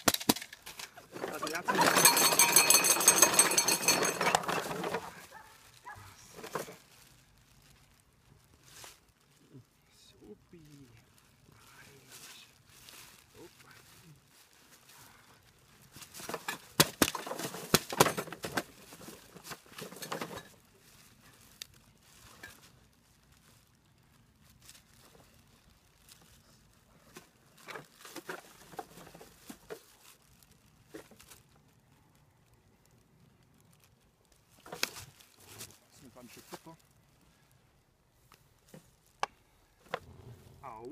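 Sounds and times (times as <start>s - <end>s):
plastic bottles crackling and crunching: 0.0s - 40.9s.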